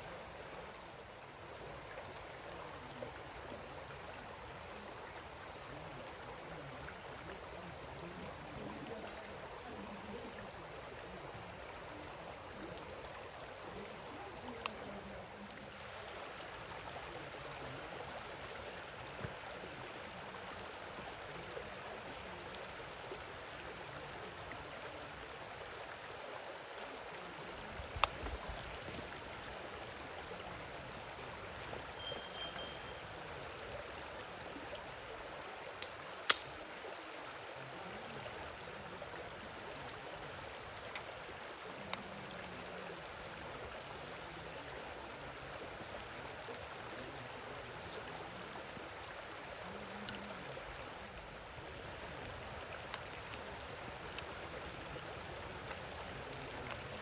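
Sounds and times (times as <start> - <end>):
flowing stream: 0.0 - 57.0.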